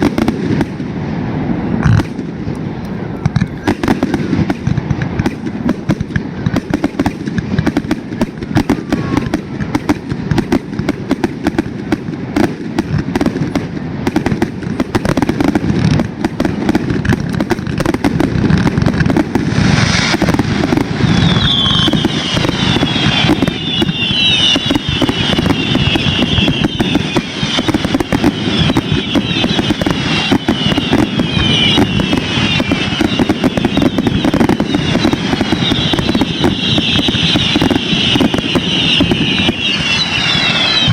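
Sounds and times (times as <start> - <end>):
fireworks popping and booming: 0.0 - 40.9
fireworks whistling: 0.0 - 40.9.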